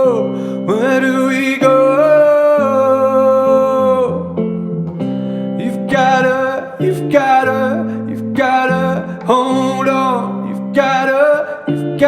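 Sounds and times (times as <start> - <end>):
man singing: 0.0 - 4.4, 5.6 - 12.0
guitar playing: 0.0 - 12.0.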